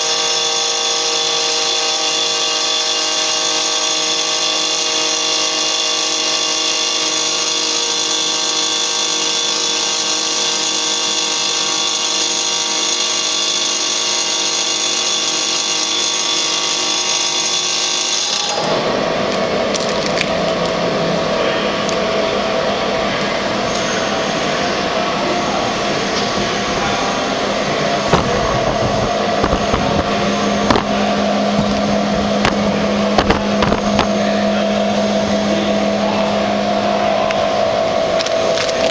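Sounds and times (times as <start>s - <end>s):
grinder whining: 0.0s - 38.9s.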